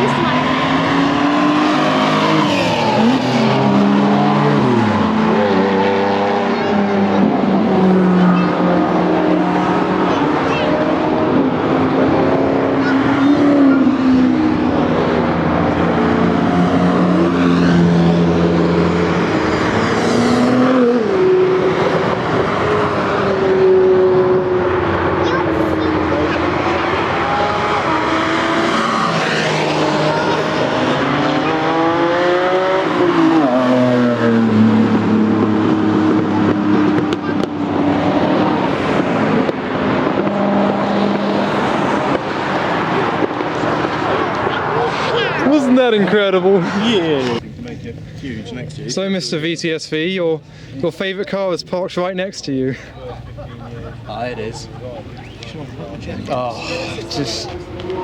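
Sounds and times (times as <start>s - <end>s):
sports car engines driving by: 0.0s - 58.0s.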